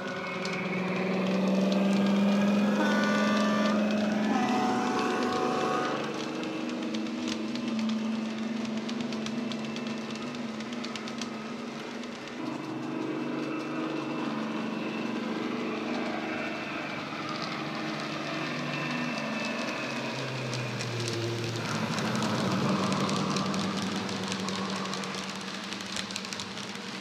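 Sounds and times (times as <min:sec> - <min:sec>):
recorded diesel engine sound: 0:00.0 - 0:27.0.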